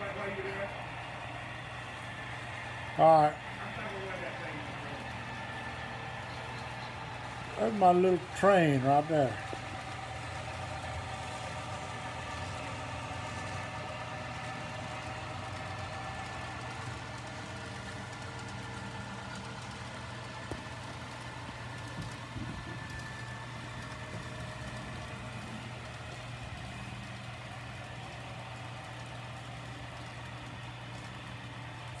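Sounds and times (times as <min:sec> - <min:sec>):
model train mechanical hum: 0:00.0 - 0:32.0
whining tones: 0:00.0 - 0:32.0.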